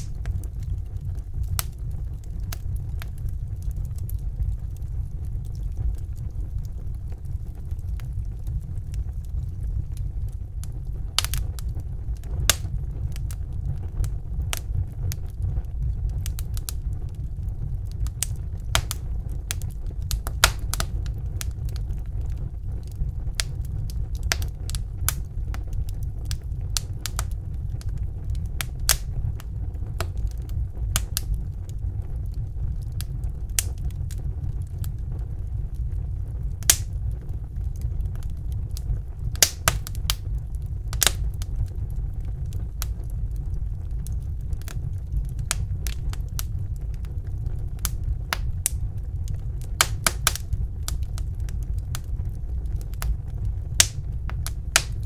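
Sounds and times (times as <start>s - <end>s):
low rumble of burning logs: 0.0s - 55.0s
wood fire crackling and popping: 0.0s - 55.0s.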